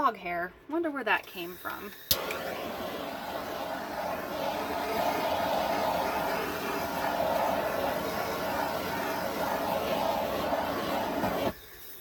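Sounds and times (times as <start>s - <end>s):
torch flame hissing: 1.7s - 11.6s.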